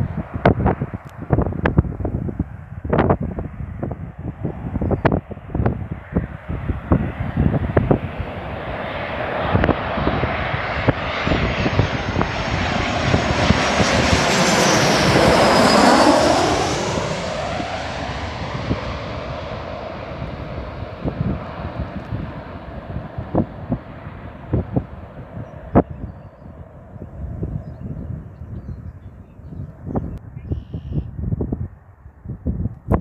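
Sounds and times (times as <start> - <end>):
jet airliner passing overhead: 0.0 - 31.7.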